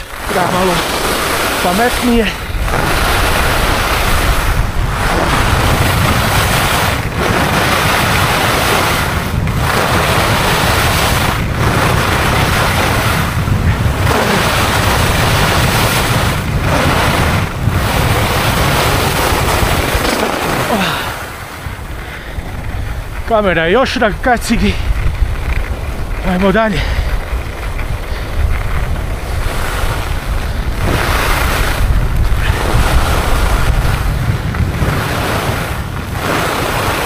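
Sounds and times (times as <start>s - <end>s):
skis hissing over snow: 0.0s - 37.0s
wind rushing over microphone: 0.0s - 37.0s.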